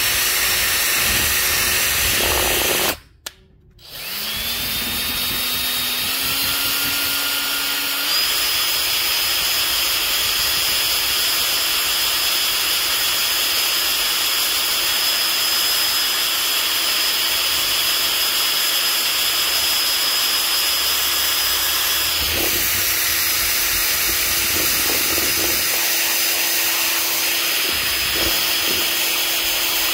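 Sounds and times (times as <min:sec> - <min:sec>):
electric drill motor whine: 0:00.0 - 0:03.0, 0:03.8 - 0:29.9.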